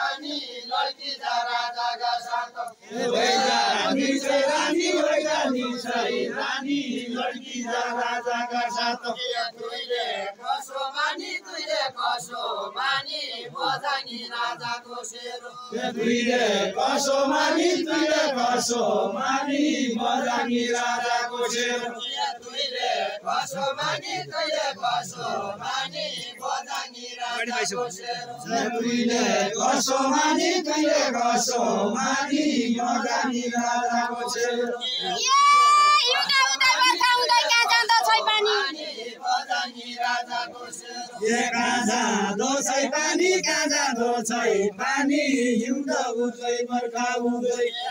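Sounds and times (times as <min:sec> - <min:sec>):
men singing in unison: 0:00.0 - 0:35.4, 0:37.3 - 0:47.9.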